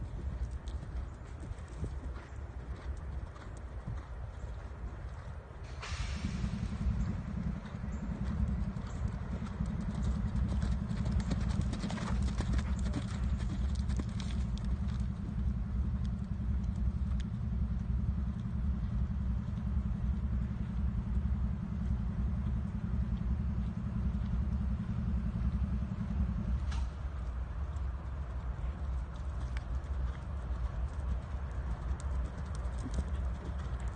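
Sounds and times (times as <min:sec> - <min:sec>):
horse hoofbeats on sand: 0:00.0 - 0:33.9
low rumble: 0:00.0 - 0:33.9.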